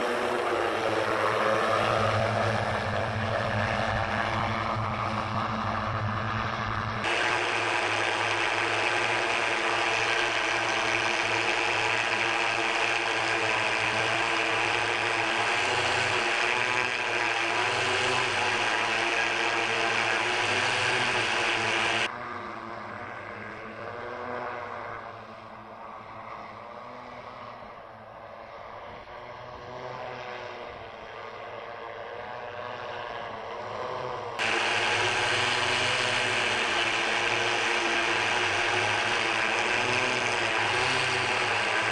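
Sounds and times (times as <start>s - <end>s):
multirotor motors humming: 0.0s - 27.8s, 28.8s - 41.9s.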